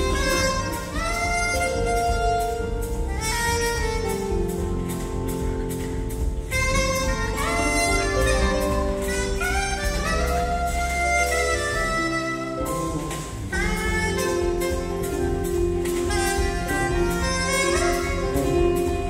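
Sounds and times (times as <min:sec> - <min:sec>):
drum kit: 0:00.0 - 0:19.0
electric bass: 0:00.0 - 0:19.0
saxophone melody: 0:00.0 - 0:19.0.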